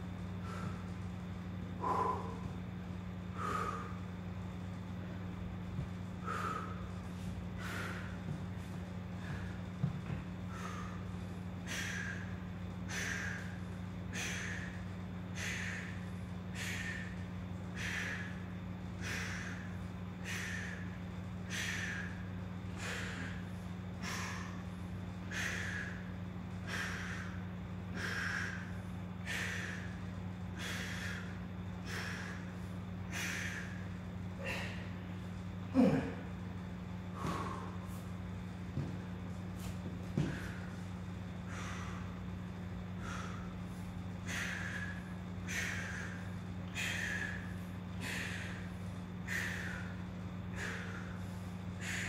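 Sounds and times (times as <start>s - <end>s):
man breathing hard: 0.0s - 52.0s
steady low hum: 0.0s - 52.0s.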